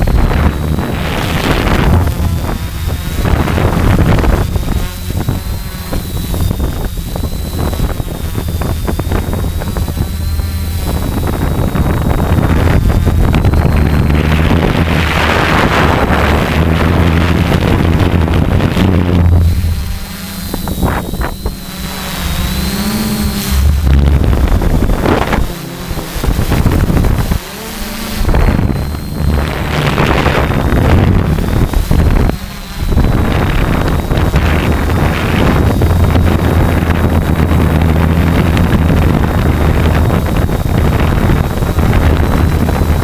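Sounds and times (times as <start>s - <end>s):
quadcopter motors whirring: 0.0s - 43.0s.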